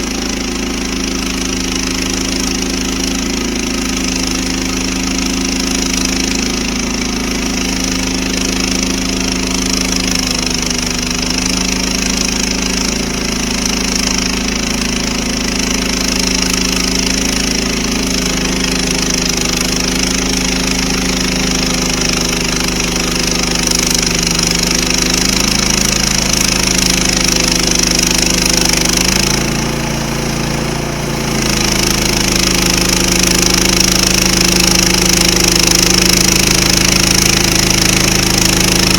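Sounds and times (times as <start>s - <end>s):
gasoline engine running under load: 0.0s - 38.9s
saw blade hissing through log: 0.0s - 38.9s.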